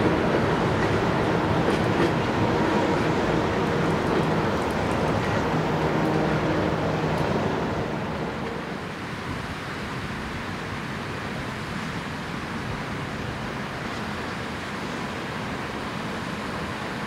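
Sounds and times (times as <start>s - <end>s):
diesel train passing: 0.0s - 17.0s
steady rushing noise: 0.0s - 17.0s.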